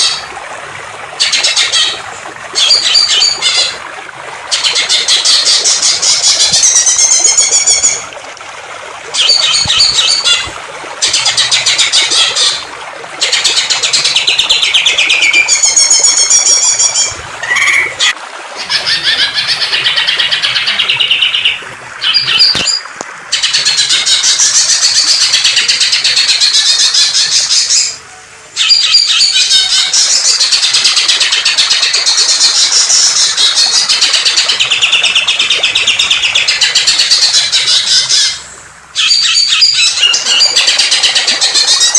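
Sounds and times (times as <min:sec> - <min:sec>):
flowing water rushing: 0:00.0 - 0:41.9.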